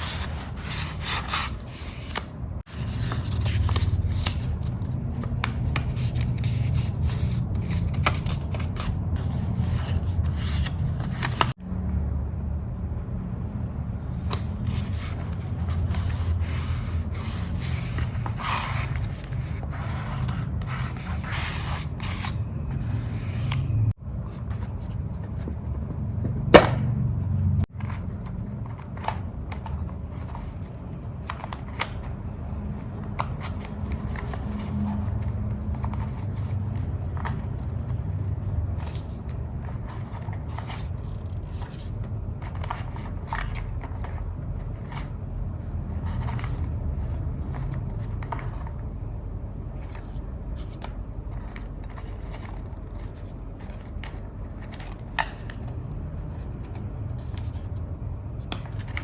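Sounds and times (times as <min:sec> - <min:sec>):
paper rustling and scraping: 0:00.0 - 0:11.6, 0:14.2 - 0:26.8, 0:32.8 - 0:49.1, 0:49.7 - 0:57.8.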